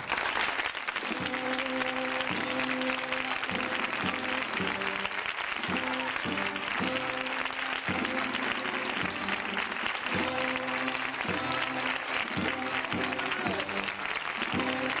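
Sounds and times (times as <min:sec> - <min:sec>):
crowd applauding: 0:00.0 - 0:15.0
band playing a march: 0:01.0 - 0:15.0.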